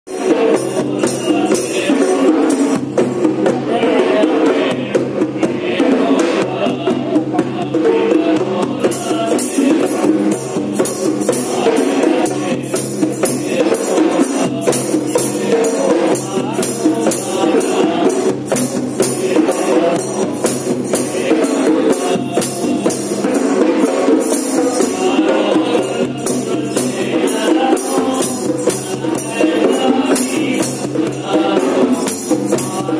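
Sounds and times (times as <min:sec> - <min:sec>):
conga drums played by hand: 0:00.1 - 0:32.9.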